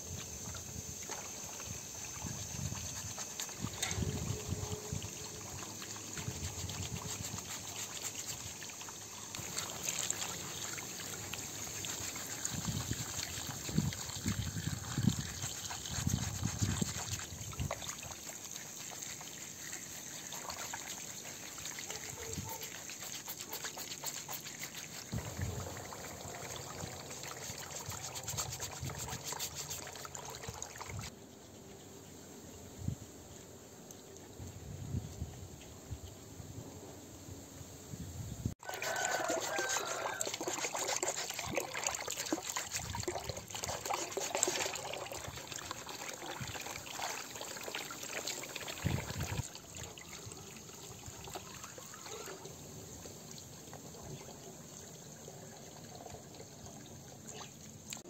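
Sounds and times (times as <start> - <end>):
water running from a hose: 0.0 - 31.1, 38.6 - 58.0
water splashing in a plastic basin: 0.4 - 31.1, 38.6 - 58.0.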